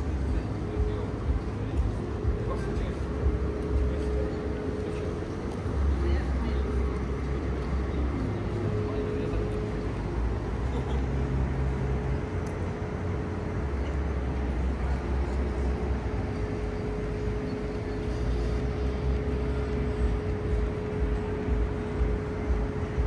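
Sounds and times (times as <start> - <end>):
constant hum: 0.0 - 23.0
low engine rumble: 0.0 - 23.0.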